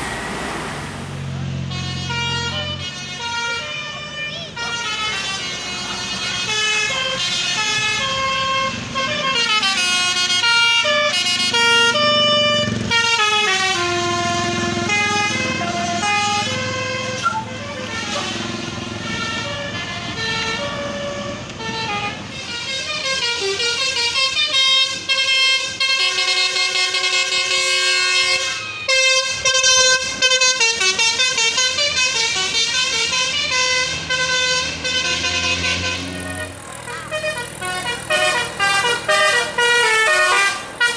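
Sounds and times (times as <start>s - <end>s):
bus engine: 0.0s - 40.9s
musical air horn playing tunes: 1.6s - 40.9s.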